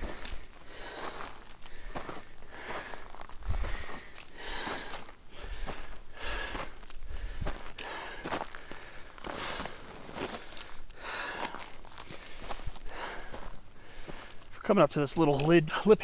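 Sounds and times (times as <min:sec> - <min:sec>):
heavy breathing: 0:00.0 - 0:14.6
footsteps on gravelly soil: 0:00.0 - 0:16.0.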